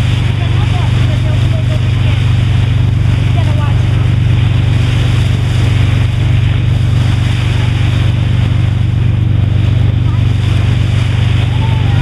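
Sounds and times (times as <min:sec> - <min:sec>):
boat engine humming: 0:00.0 - 0:12.0
wind: 0:00.0 - 0:12.0.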